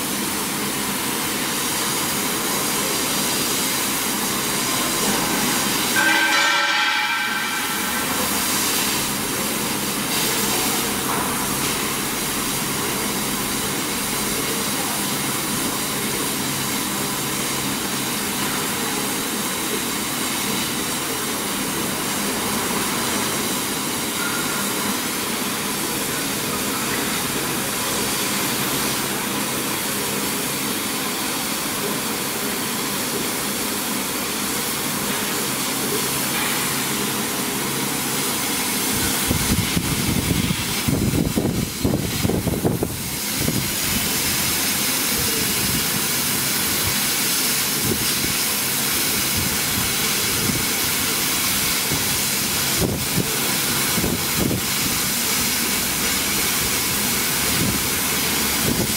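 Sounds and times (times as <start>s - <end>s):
laser cutter hissing and humming: 0.0s - 58.9s.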